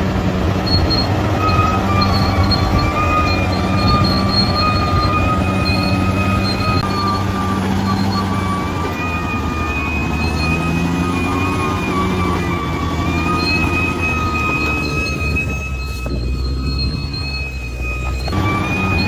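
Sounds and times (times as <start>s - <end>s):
bulldozer diesel engine: 0.0s - 19.0s
high-pitched squeal: 0.0s - 19.0s.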